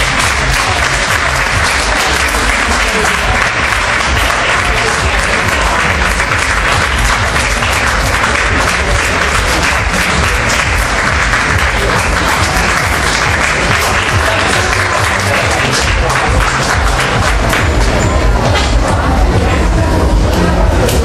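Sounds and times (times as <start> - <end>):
crowd applauding: 0.0 - 19.4
music playing: 0.0 - 21.0.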